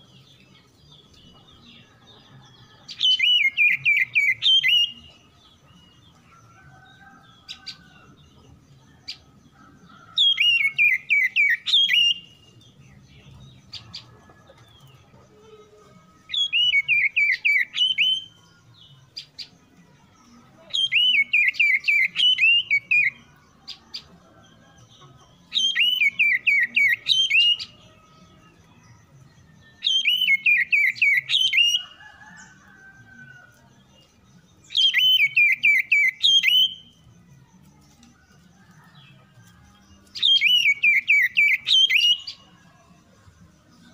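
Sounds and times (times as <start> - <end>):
bird song whistled notes: 0.0 - 8.2, 10.0 - 14.1, 16.2 - 19.5, 20.6 - 37.3, 37.9 - 42.6.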